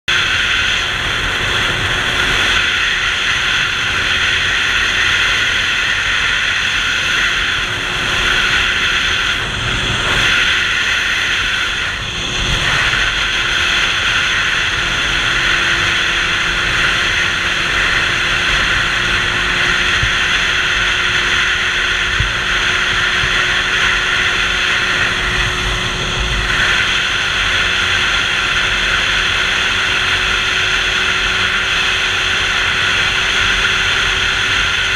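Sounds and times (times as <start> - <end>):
motorcycle engine drone: 0.0 - 34.9
wind rushing over microphone: 0.1 - 34.9.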